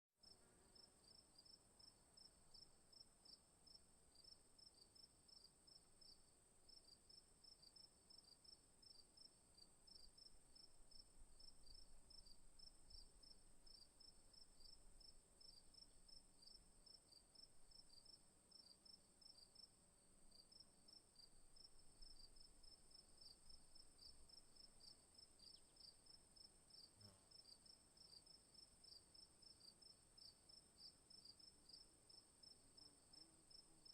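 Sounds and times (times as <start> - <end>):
crickets chirping: 0.2 - 33.9.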